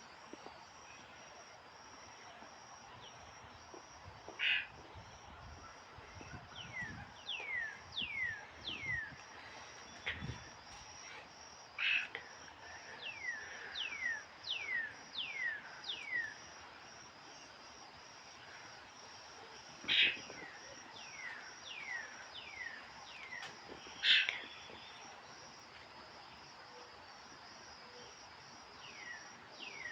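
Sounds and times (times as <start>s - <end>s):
insect chirping: 0.0s - 29.9s.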